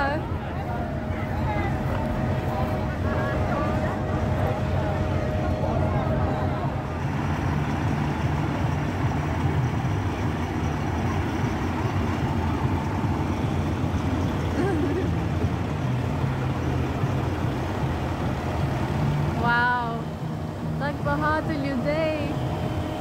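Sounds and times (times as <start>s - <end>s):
fire truck diesel engine: 0.0s - 23.0s.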